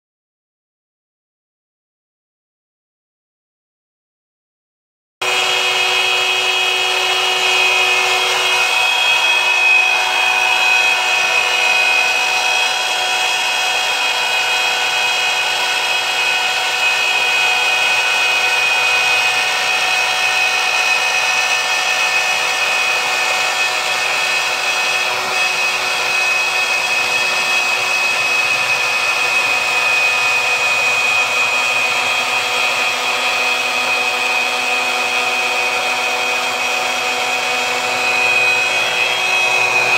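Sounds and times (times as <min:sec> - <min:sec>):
router whining cutting plywood: 0:05.2 - 0:39.9.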